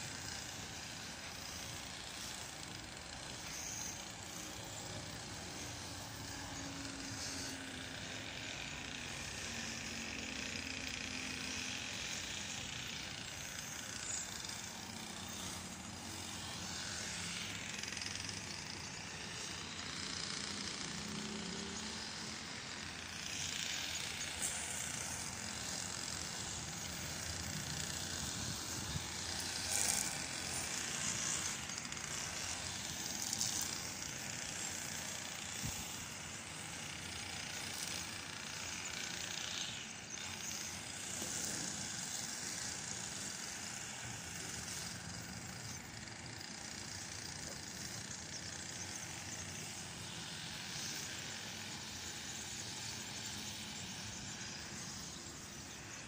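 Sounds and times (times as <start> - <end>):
distant road traffic hum: 0.0 - 56.0.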